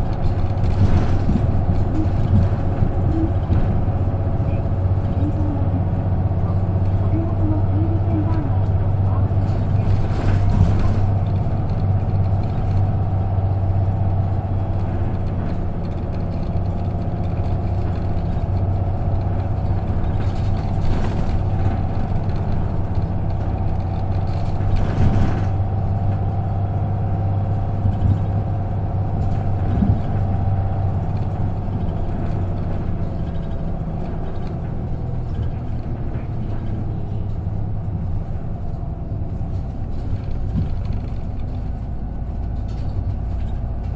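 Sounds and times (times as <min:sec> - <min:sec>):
bus engine droning: 0:00.0 - 0:43.9
engine whine: 0:00.0 - 0:43.9.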